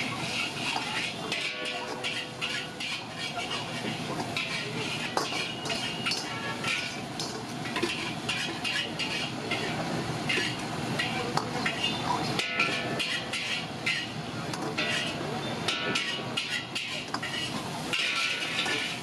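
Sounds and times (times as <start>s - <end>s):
gas burner hissing: 0.0s - 19.0s
metal ladle scraping a wok: 0.0s - 19.0s
oil sizzling: 0.0s - 19.0s.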